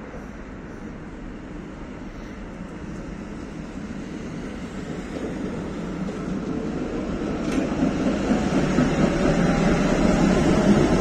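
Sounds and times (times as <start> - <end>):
electric tram rumbling on rails: 0.0 - 11.0.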